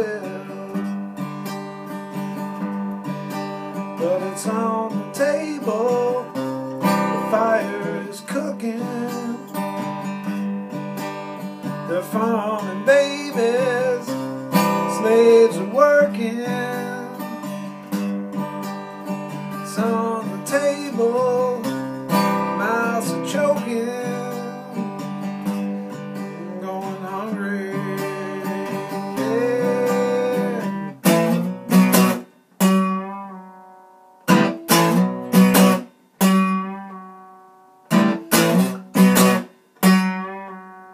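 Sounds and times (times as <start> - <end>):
acoustic guitar strummed and picked: 0.0 - 40.9.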